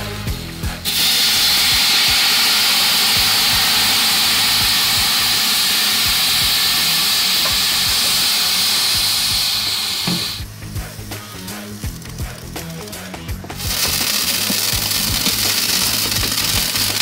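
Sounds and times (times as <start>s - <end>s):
wine sizzling on hot metal: 0.9s - 17.0s.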